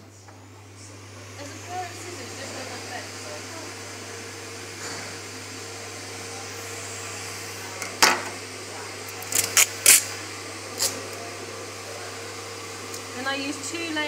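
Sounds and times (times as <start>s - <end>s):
vacuum suction motor humming: 0.0s - 14.0s.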